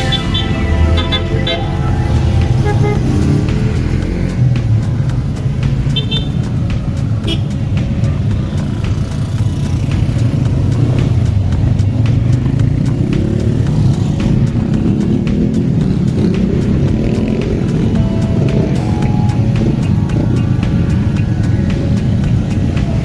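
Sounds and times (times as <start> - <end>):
motorcycle engines rumbling: 0.0 - 23.0.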